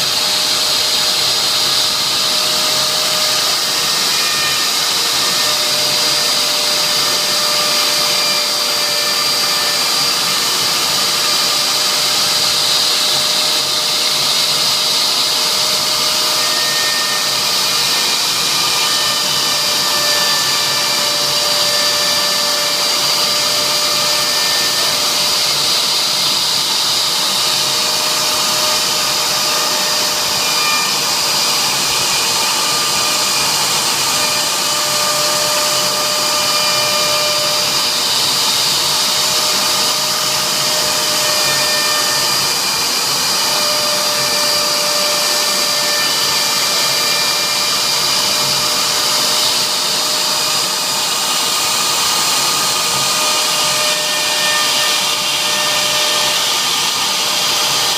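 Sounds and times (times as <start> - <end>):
router spindle high whine: 0.0 - 57.9.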